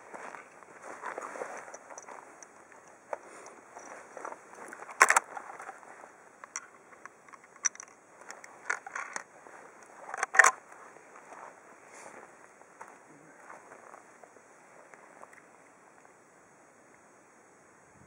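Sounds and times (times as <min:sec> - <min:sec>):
handling clicks and rustles: 0:00.0 - 0:16.2.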